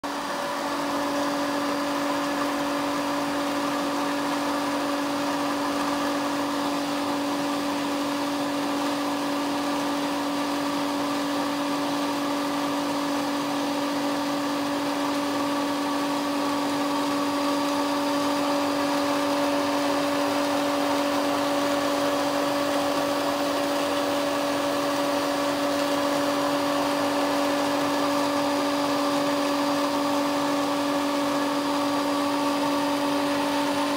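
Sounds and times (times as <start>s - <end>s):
electric water pump humming: 0.0s - 33.9s.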